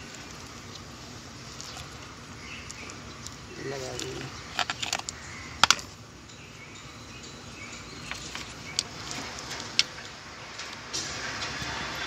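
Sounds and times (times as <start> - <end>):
steady background noise: 0.0 - 12.0
metal engine parts clicking: 1.6 - 12.0.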